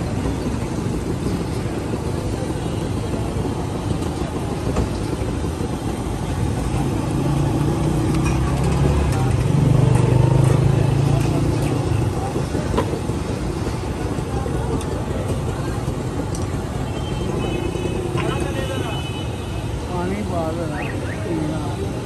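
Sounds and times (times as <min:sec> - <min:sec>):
street traffic rumbling: 0:00.0 - 0:22.0.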